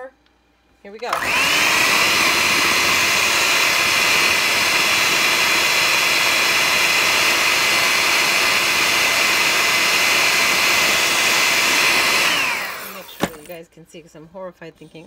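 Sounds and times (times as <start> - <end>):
electric hand mixer whining: 1.1 - 13.5.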